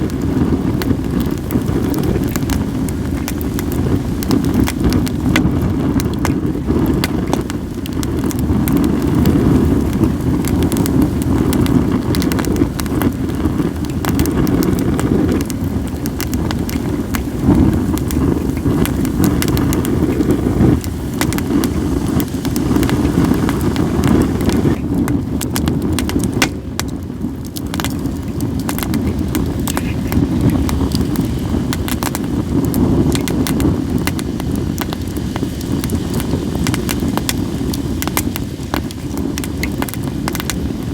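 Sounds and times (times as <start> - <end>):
campfire crackling and popping: 0.0 - 40.9
wind rumble on microphone: 0.0 - 40.9.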